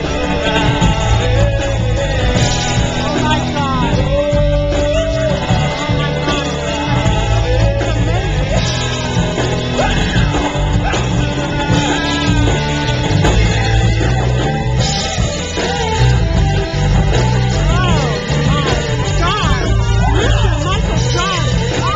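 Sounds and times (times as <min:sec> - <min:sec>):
loud rock music with singing: 0:00.0 - 0:21.9.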